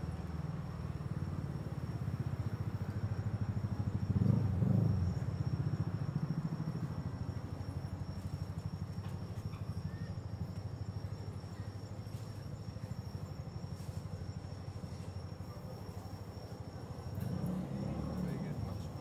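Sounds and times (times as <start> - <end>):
vehicle engine at low revs: 0.0 - 19.0.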